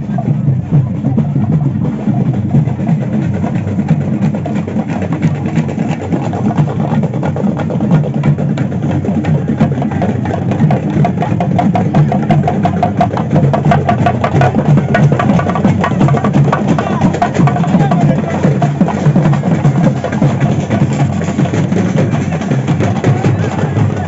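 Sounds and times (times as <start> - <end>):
crowd voices: 0.0 - 7.3, 8.8 - 24.0
drums beaten fast: 0.0 - 24.0.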